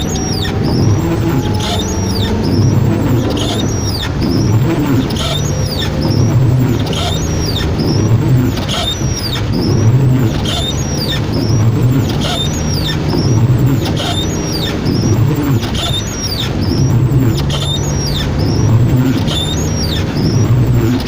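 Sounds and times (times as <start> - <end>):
car engine low hum: 0.0 - 21.0
heavy rain: 0.0 - 21.0
windshield wipers squeaking: 0.0 - 21.0.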